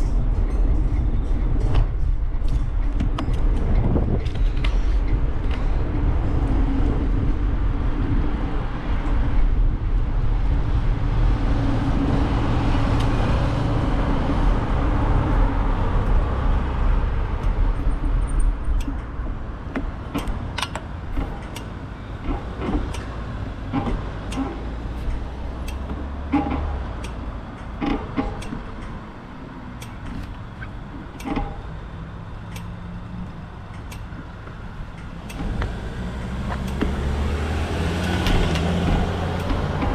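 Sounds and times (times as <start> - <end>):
outdoor ambience: 0.0 - 39.9
vehicle passing with low rumble: 0.0 - 39.9.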